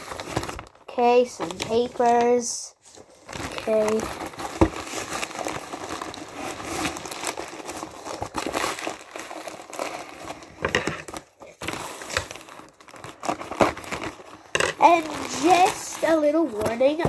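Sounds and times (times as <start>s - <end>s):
packing paper crumpling: 0.0s - 17.0s.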